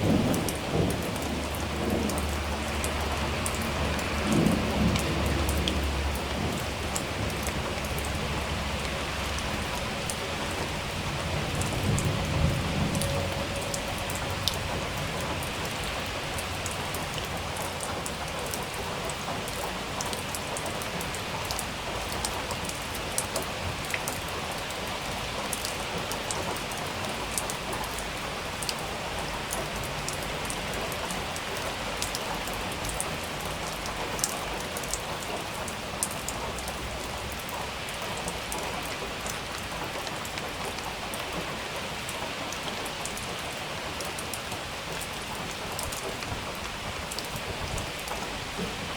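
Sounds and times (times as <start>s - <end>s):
rain falling on a surface: 0.0s - 48.9s.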